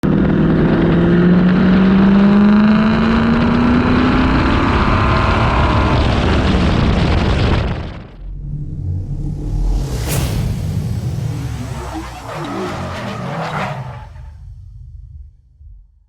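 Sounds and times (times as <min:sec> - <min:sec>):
road and wind noise: 0:00.0 - 0:15.8
car engine accelerating: 0:00.0 - 0:16.0.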